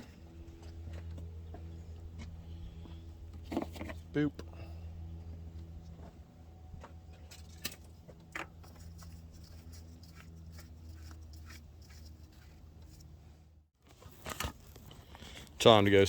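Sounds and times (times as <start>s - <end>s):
faint low hum: 0.0s - 13.6s.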